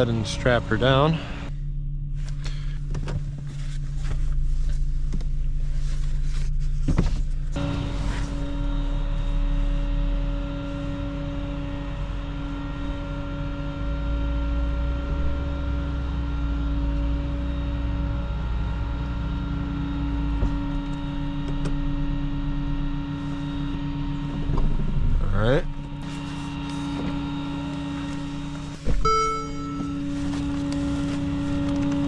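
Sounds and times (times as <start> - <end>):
vehicle engine running with whine: 0.0 - 32.0.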